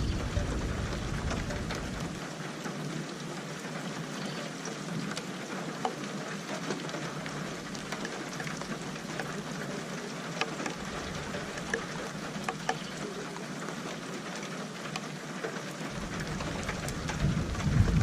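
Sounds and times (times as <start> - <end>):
raindrops hitting surface: 0.0 - 18.0
steady rain hiss: 0.0 - 18.0.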